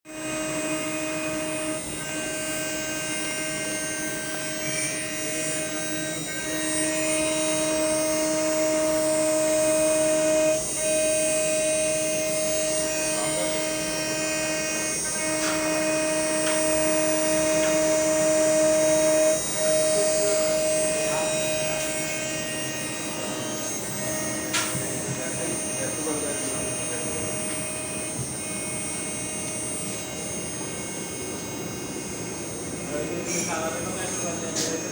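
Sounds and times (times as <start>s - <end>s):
machine motor whine: 0.1s - 34.9s.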